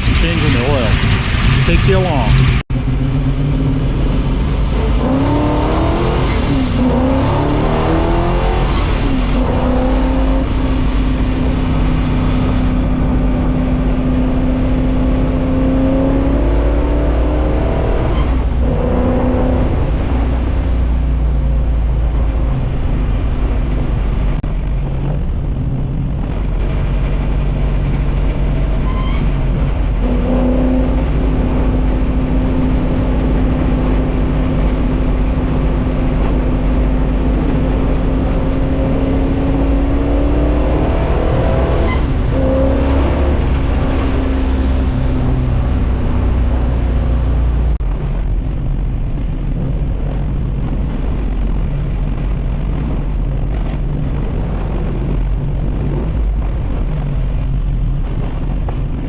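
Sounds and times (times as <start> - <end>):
car engine running under load: 0.0 - 59.0.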